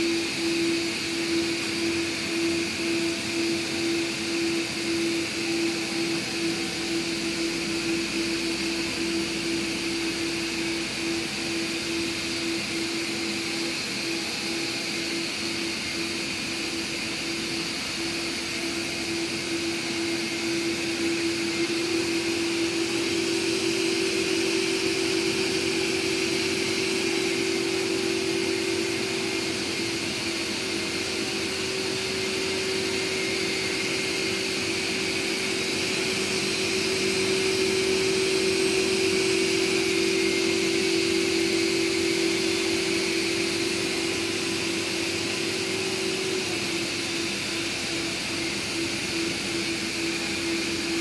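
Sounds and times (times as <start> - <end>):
robot vacuums humming: 0.0 - 51.0.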